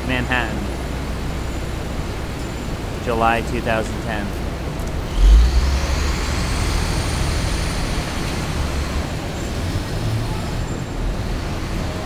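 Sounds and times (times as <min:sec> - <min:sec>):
deep engine rumble: 0:00.0 - 0:12.0
passing vehicles: 0:00.0 - 0:12.0.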